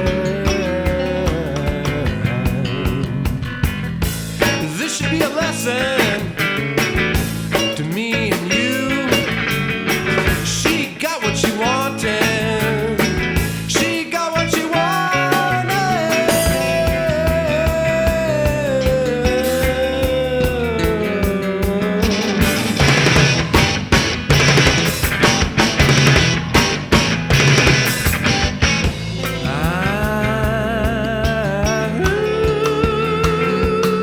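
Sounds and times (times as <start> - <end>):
bending lead guitar line: 0.0 - 34.0
rock band playing: 0.0 - 34.0.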